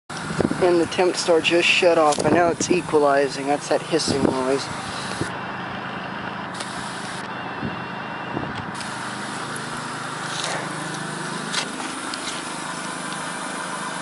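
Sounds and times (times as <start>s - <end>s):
heat pump hissing: 0.1s - 7.3s, 8.6s - 14.0s.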